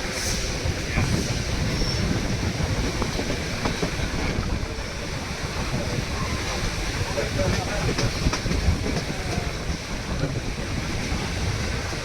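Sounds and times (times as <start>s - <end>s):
train rumbling and rattling on track: 0.0s - 12.0s.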